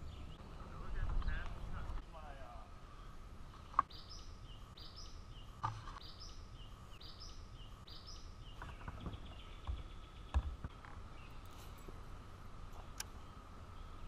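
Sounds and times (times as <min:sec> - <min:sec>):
outdoor background noise: 0:00.0 - 0:14.0
songbird singing: 0:00.0 - 0:14.0.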